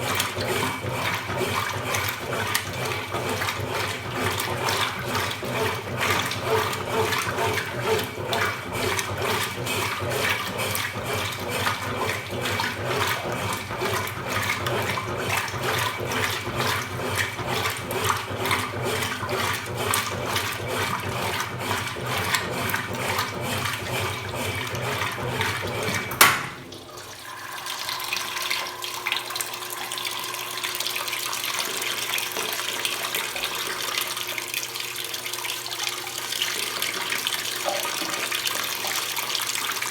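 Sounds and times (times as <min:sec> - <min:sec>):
running water filling tub: 0:00.0 - 0:39.9
washing machine churning water: 0:00.0 - 0:39.9.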